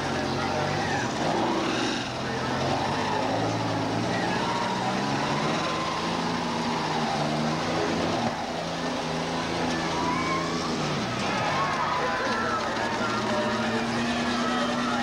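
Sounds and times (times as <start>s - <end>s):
car engines revving: 0.0s - 15.0s
noisy arena background: 0.0s - 15.0s.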